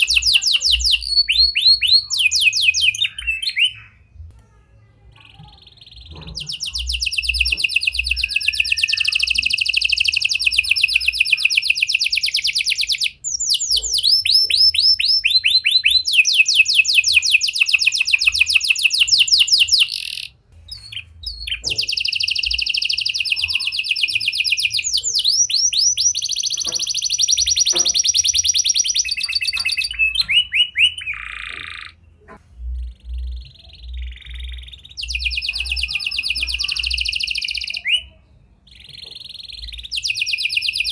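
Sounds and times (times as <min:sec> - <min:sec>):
canary singing trills: 0:00.0 - 0:04.3, 0:05.1 - 0:40.9.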